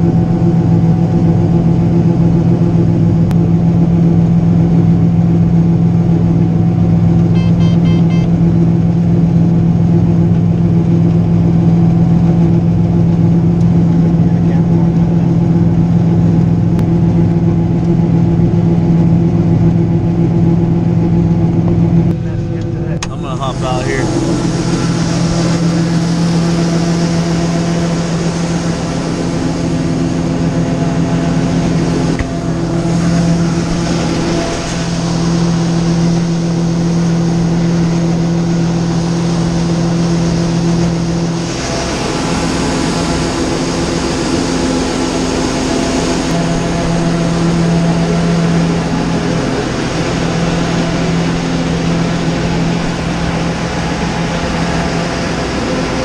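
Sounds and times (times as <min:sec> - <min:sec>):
combine harvester machine hum: 0:00.0 - 0:56.0.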